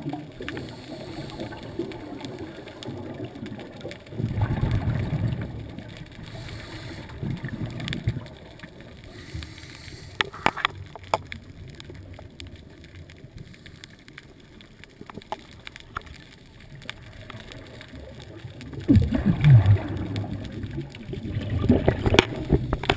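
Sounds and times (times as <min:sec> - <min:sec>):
underwater breath bubbles gurgling: 0:00.0 - 0:22.9.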